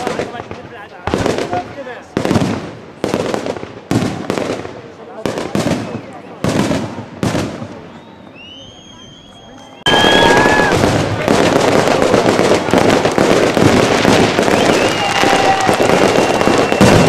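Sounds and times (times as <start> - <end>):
fireworks bangs and crackling: 0.0 - 17.0
fireworks whistling: 0.0 - 17.0.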